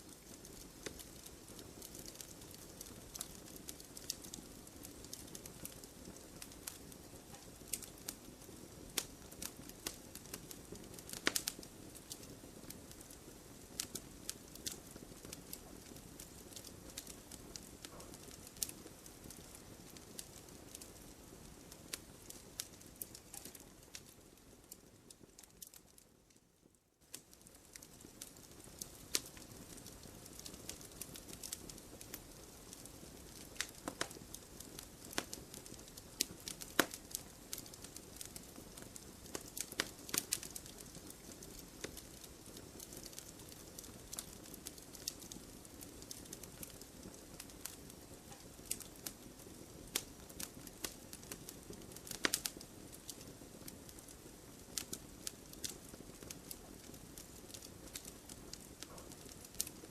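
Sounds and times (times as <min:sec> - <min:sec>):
fire crackling and popping: 0:00.0 - 0:59.9
fire flames hissing: 0:00.1 - 0:24.5, 0:27.7 - 0:59.9.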